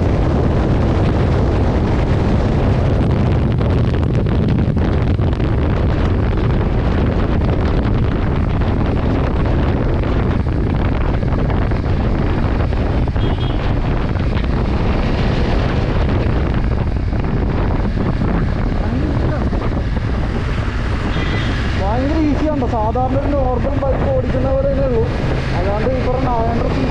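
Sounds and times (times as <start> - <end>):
motorcycle engine: 0.0 - 26.9
road noise: 0.0 - 26.9
wind buffeting the microphone: 0.0 - 26.9.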